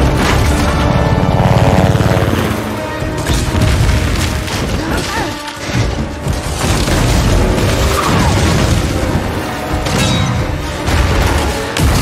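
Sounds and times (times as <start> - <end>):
dramatic music score: 0.0 - 12.0.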